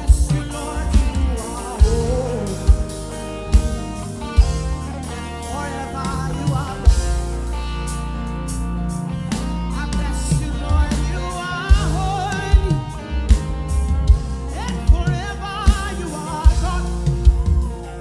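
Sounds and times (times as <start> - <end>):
person singing: 0.0 - 8.2, 9.7 - 18.0
band playing steady beat: 0.0 - 18.0.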